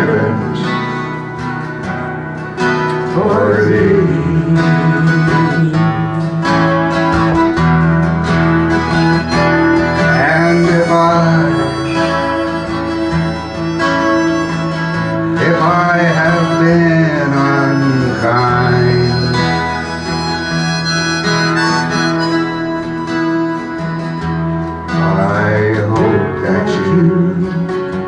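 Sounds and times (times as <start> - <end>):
acoustic guitar strumming: 0.0 - 28.0
harmonica melody: 0.0 - 28.0.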